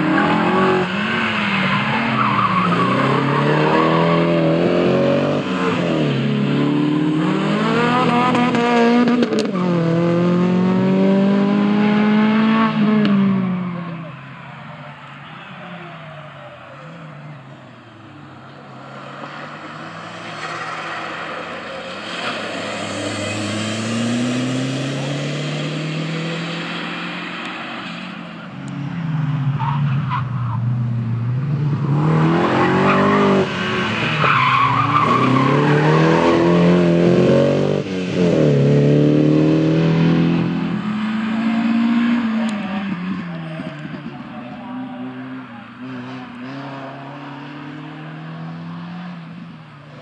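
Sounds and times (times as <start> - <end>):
distant rally car revving: 0.0 - 50.0
rally car approaching loudly: 0.0 - 50.0.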